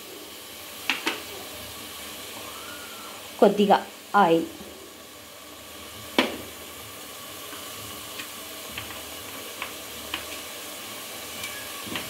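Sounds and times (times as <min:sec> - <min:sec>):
oil sizzling faintly in a pot: 0:00.0 - 0:12.0.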